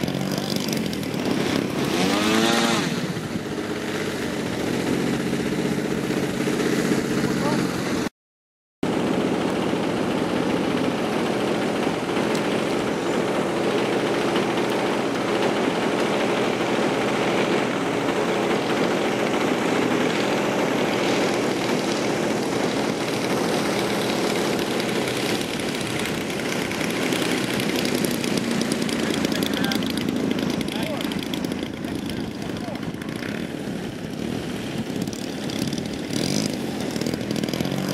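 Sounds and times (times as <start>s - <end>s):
model airplane engine and propeller: 0.0s - 8.1s, 8.8s - 37.9s.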